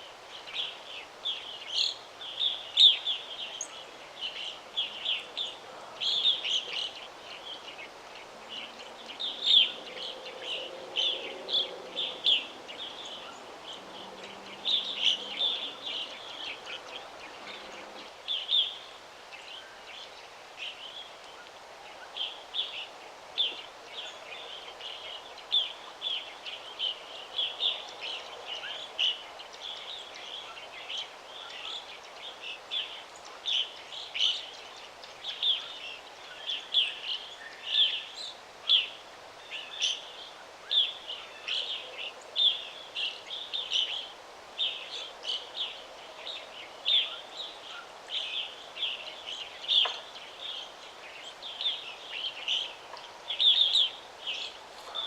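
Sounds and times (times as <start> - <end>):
birds chirping: 0.0 - 55.0
faint background hiss: 0.0 - 55.0.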